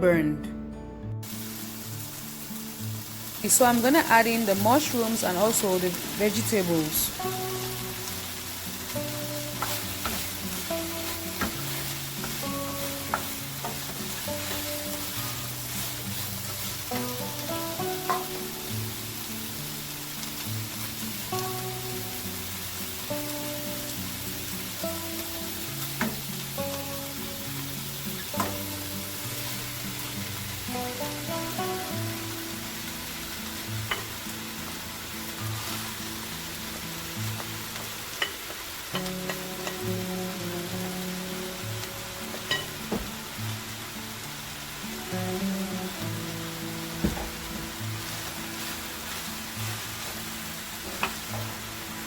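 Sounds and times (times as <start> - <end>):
soft background music: 0.0 - 52.0
food sizzling in oil: 1.2 - 52.0.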